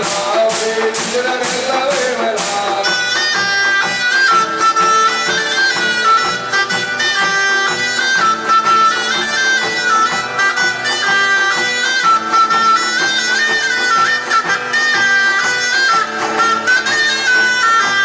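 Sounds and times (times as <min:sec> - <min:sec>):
barrels beaten in rhythm: 0:00.0 - 0:18.0.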